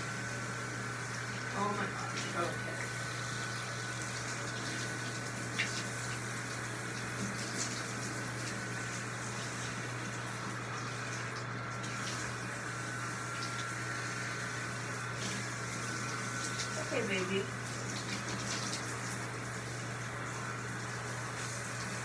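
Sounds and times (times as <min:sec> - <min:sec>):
shower water running: 0:00.0 - 0:22.0.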